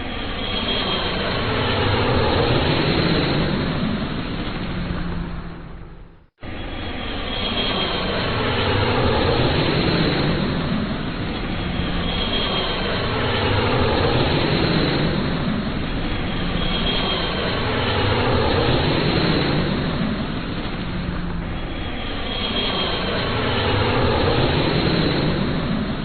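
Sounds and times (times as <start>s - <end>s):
high jet whine: 0.0s - 26.0s
jet aircraft roar: 0.0s - 26.0s.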